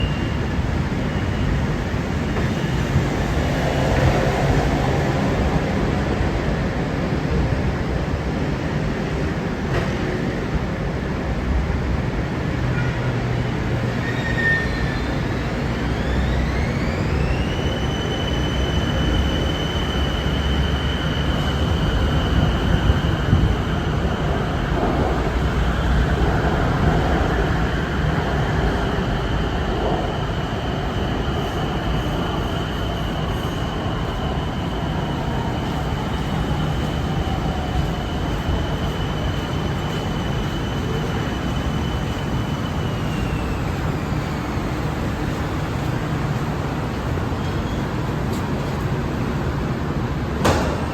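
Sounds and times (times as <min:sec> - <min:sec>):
high electric train drive whine: 0:00.0 - 0:50.9
wheels rumbling on rail: 0:00.0 - 0:50.9.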